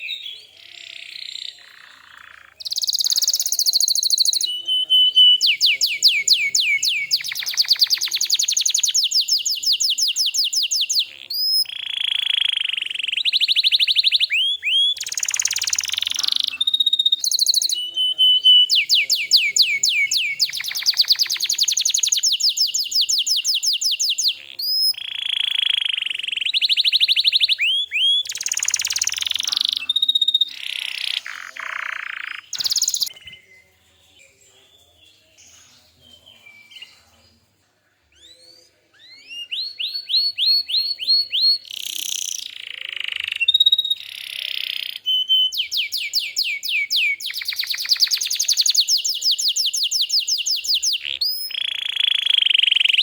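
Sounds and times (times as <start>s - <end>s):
canary singing trills: 0.0s - 37.5s, 38.1s - 53.0s.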